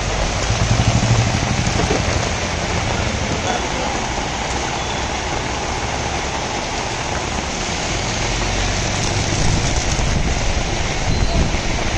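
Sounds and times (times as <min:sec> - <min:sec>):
heavy rain on pavement: 0:00.0 - 0:11.9.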